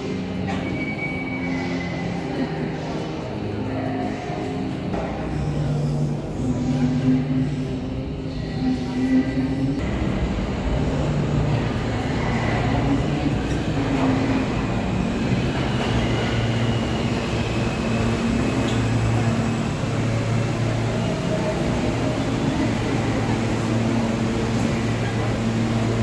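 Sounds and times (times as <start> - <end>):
subway train pulling in: 0.0 - 26.0.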